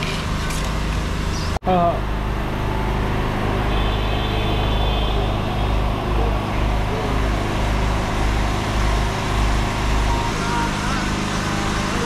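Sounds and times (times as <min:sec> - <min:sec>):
urban traffic rumble: 0:00.0 - 0:12.0.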